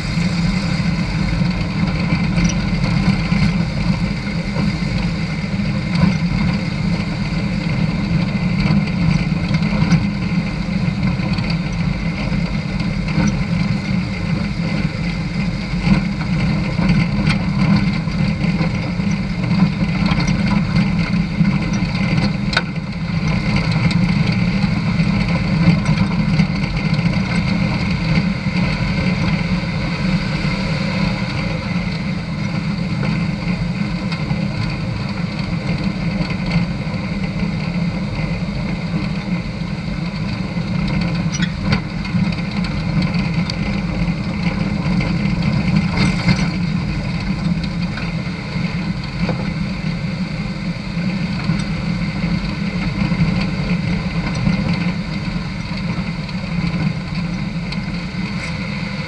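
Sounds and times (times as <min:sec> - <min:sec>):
vehicle engine on gravel road: 0:00.0 - 0:59.0.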